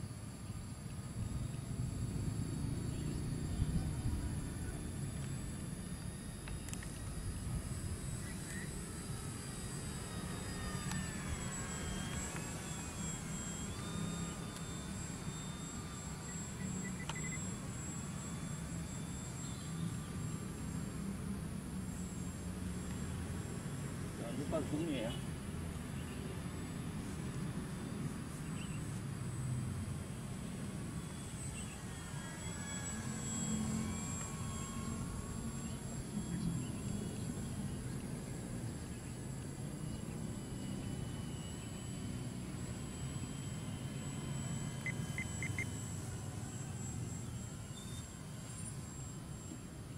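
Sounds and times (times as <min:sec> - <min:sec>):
model plane motor whining: 0:00.0 - 0:49.9.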